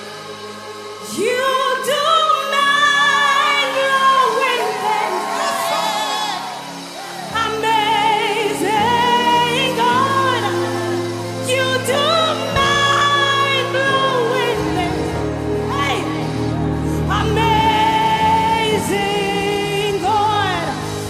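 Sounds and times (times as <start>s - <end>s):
choir singing: 0.0s - 21.0s
woman singing with vibrato: 1.0s - 21.0s.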